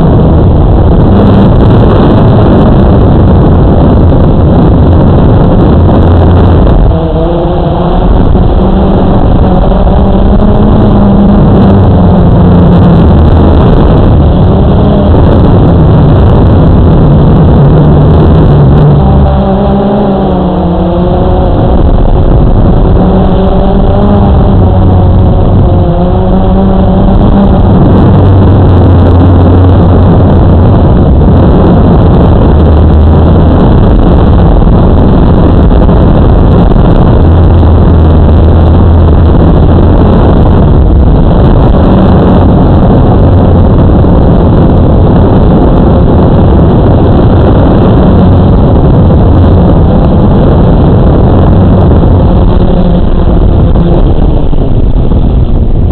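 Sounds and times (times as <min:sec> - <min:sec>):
drone propellers whirring: 0:00.0 - 0:55.9
wind on microphone: 0:00.0 - 0:55.9.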